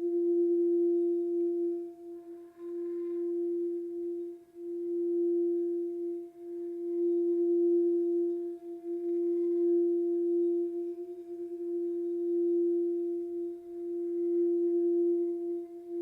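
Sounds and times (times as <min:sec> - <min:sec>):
singing bowl tone: 0:00.0 - 0:16.0.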